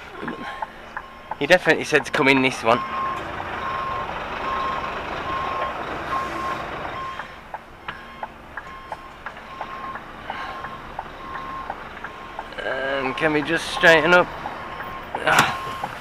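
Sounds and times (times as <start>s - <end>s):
truck engine running: 0.0s - 16.0s
truck reversing alarm beeping: 0.0s - 16.0s.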